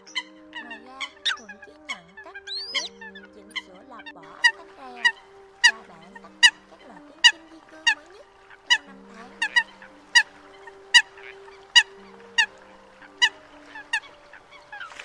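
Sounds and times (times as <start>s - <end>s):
coots calling: 0.0s - 15.0s.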